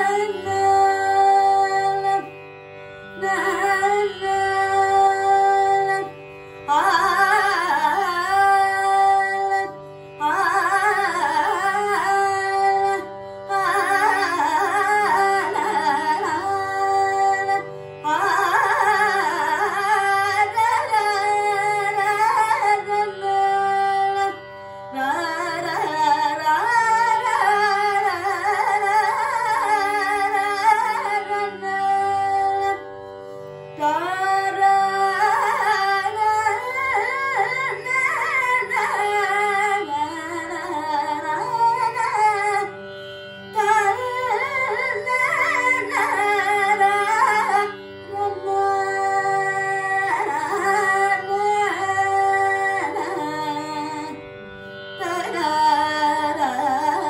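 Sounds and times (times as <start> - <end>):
woman singing: 0.0 - 2.3, 3.1 - 32.9, 33.7 - 42.8, 43.5 - 54.2, 55.0 - 57.0.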